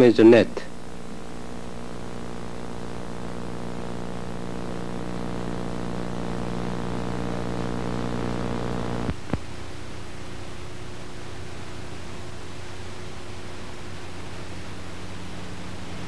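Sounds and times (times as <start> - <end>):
low hum with overtones: 0.0 - 16.0.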